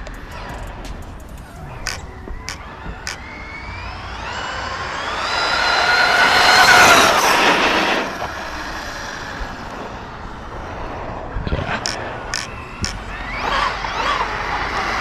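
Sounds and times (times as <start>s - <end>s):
electric motor whining: 0.0s - 11.1s, 11.8s - 15.0s.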